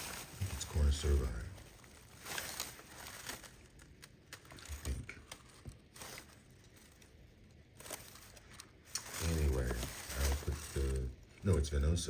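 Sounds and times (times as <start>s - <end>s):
light packaging rustling: 0.0s - 11.9s.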